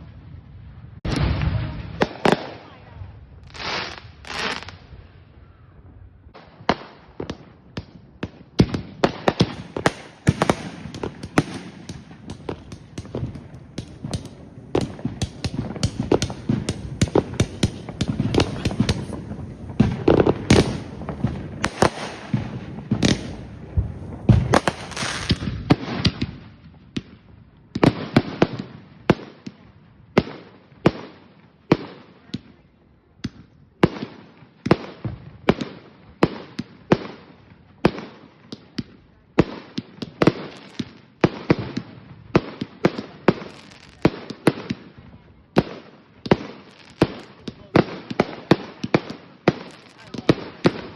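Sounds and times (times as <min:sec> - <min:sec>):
fireworks bangs: 0:00.0 - 0:05.0, 0:06.3 - 0:50.9.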